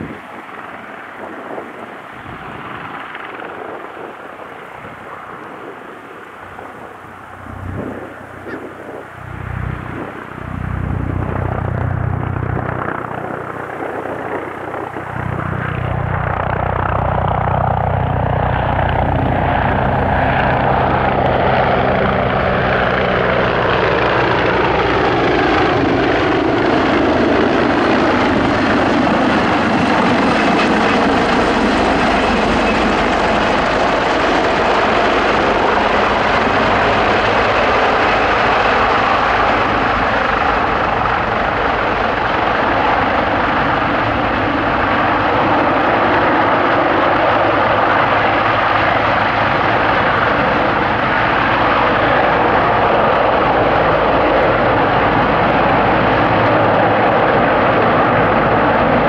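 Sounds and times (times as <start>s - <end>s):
helicopter engines and rotors: 0.0s - 59.0s.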